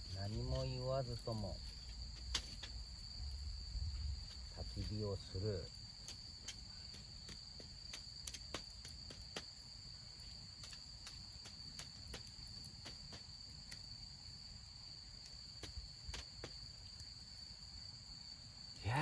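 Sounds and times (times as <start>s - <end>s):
campfire crackling and popping: 0.0s - 19.0s
insects trilling: 0.0s - 19.0s.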